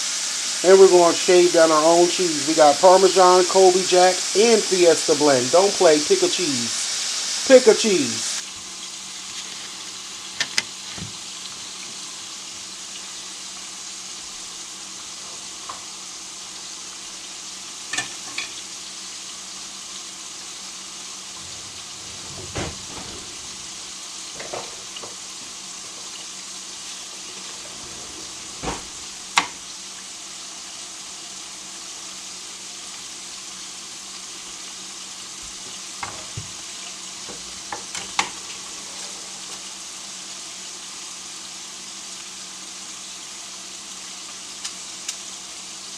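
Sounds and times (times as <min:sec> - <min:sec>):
food sizzling in hot grease: 0:00.0 - 0:45.9.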